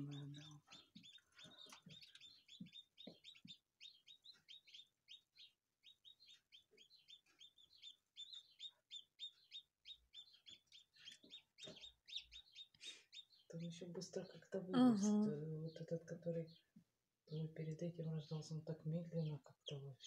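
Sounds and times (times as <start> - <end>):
chicks peeping: 0.0 - 14.7, 15.4 - 20.0.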